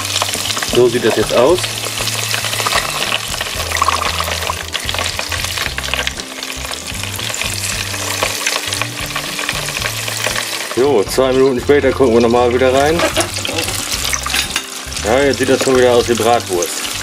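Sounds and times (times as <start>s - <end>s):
sausages sizzling in deep fryer: 0.0s - 17.0s.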